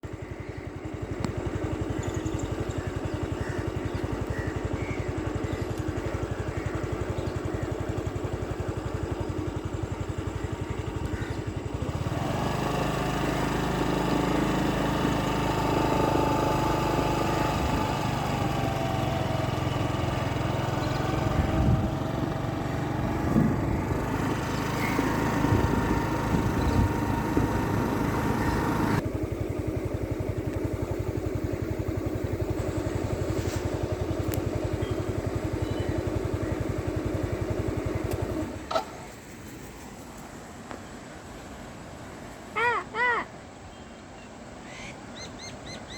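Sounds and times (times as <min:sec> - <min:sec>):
motor engine running: 0:00.0 - 0:42.8.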